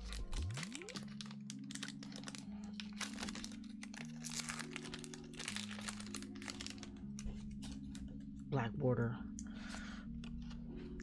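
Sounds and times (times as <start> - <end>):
foil wrapper crinkling and tearing: 0.0 - 8.1, 9.7 - 11.0.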